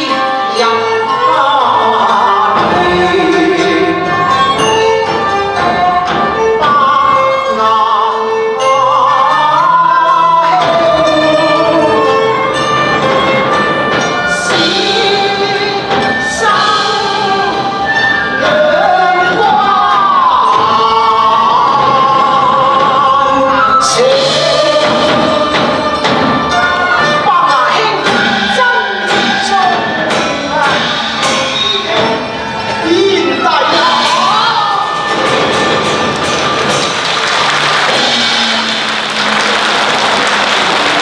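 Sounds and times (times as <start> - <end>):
woman singing opera: 0.0 - 12.5, 14.3 - 35.2
instrumental ensemble accompaniment: 0.0 - 41.0.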